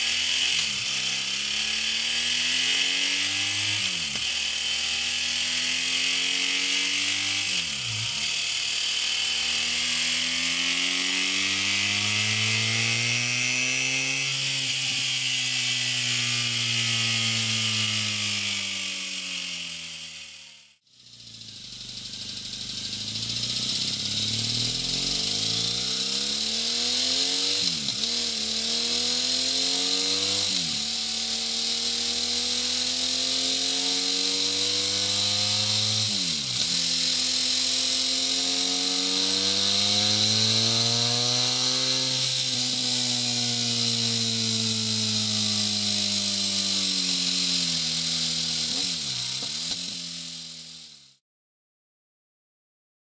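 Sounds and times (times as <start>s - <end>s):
motorcycle engine accelerating: 0.0s - 51.2s.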